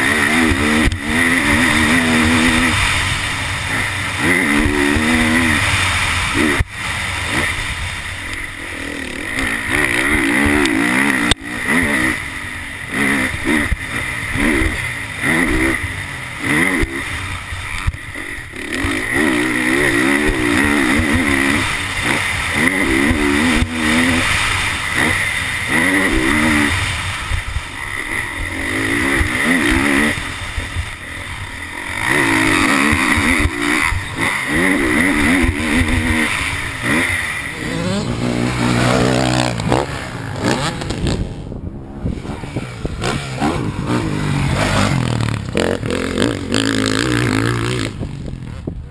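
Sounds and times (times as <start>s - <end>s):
motocross engine revving: 0.0s - 48.9s.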